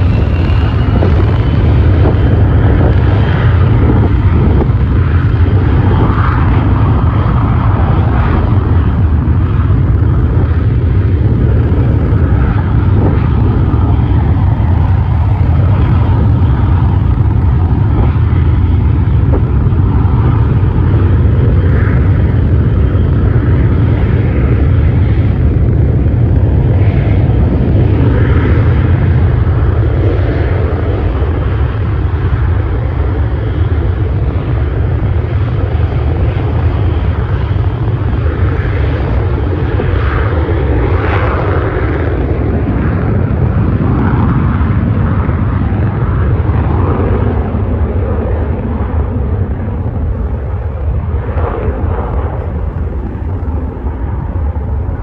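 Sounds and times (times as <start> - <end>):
aircraft engines running: 0.0 - 55.0.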